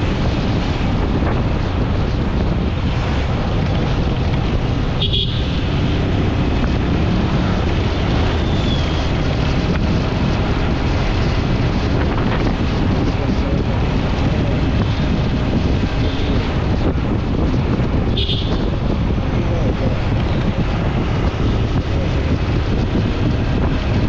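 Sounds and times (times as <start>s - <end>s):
motorcycle engine: 0.0s - 24.0s
tyre noise on road: 0.0s - 24.0s
wind rushing over microphone: 0.0s - 24.0s.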